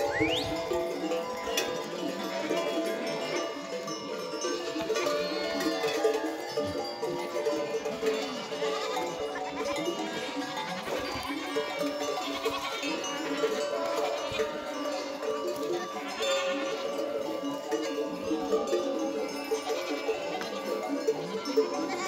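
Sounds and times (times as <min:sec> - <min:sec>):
goat bells ringing: 0:00.0 - 0:22.0
goats bleating: 0:00.0 - 0:22.0.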